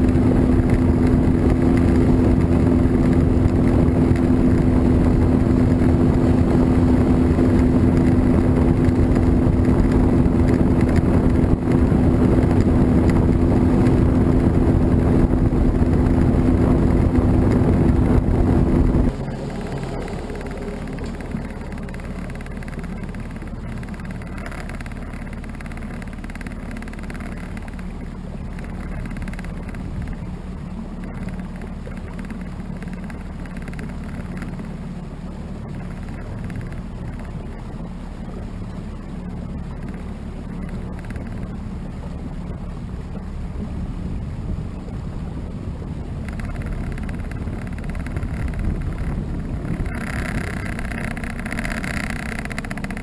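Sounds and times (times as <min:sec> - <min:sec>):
small boat motor running: 0:00.0 - 0:53.0
water and wind noise: 0:00.0 - 0:53.0.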